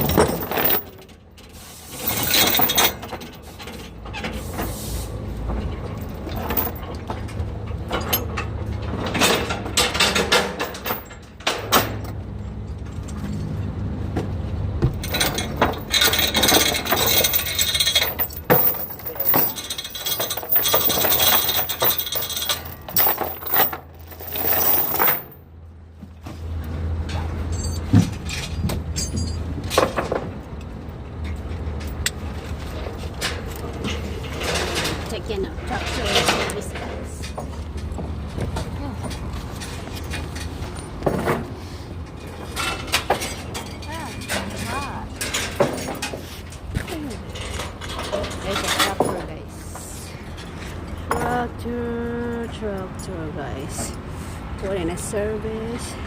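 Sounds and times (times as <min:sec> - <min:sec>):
clinks and rattles: 0:00.0 - 0:04.7, 0:05.3 - 0:25.5, 0:27.0 - 0:51.6
vehicle low hum: 0:00.0 - 0:56.0.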